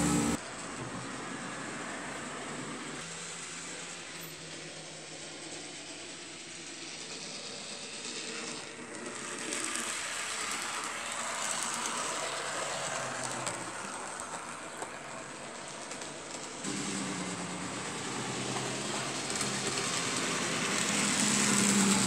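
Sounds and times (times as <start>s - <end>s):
wheels clicking on rails: 0.0s - 22.0s
model train motor whirring: 1.3s - 22.0s.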